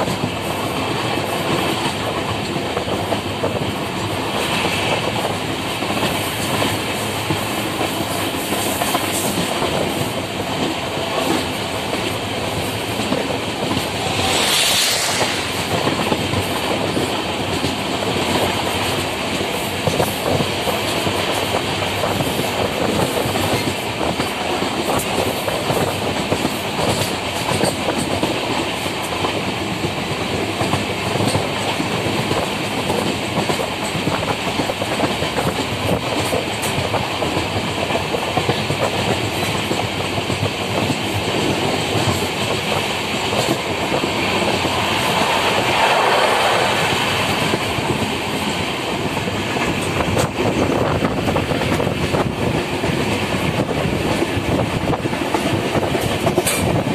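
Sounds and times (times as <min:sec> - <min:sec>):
clickety-clack of rail joints: 0:00.0 - 0:56.9
train wheels rumbling on rails: 0:00.0 - 0:56.9.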